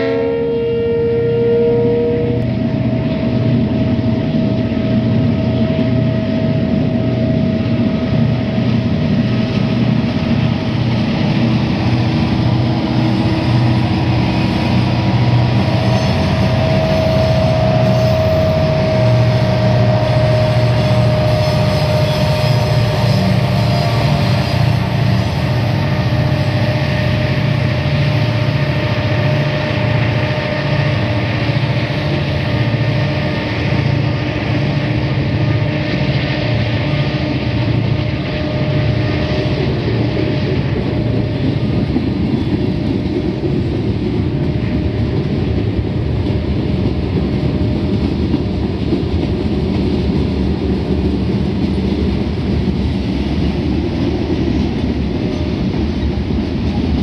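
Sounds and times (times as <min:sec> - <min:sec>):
diesel engine working steadily: 0:00.6 - 0:57.0.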